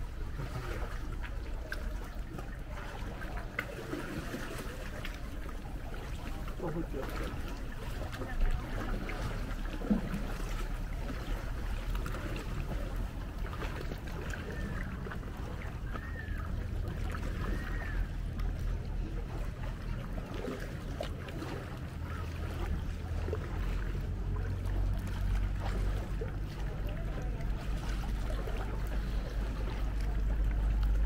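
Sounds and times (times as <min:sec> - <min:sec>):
low steady rumble: 0:00.0 - 0:31.0
paddles splashing in water: 0:00.0 - 0:31.0.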